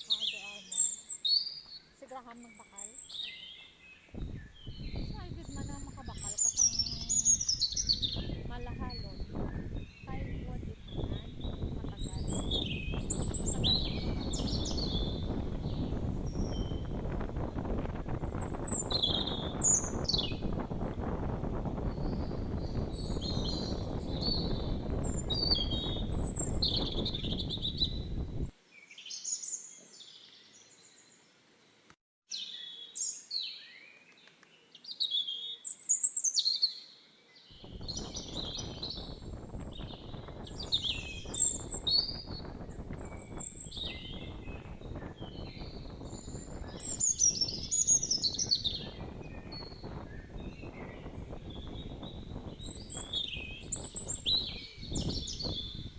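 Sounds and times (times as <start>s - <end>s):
small birds chirping: 0.0s - 31.4s, 32.3s - 55.9s.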